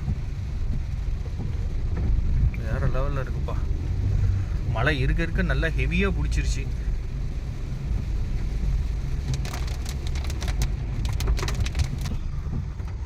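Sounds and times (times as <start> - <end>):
heavy rain on car: 0.0 - 13.0
road and engine rumble: 0.0 - 13.0.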